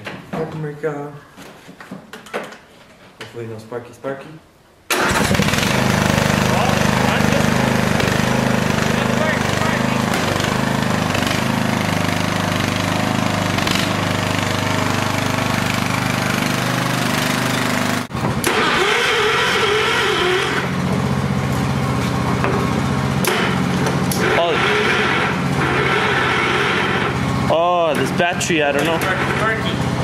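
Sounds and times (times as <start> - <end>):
lawn tractor engine running: 4.9 - 30.0.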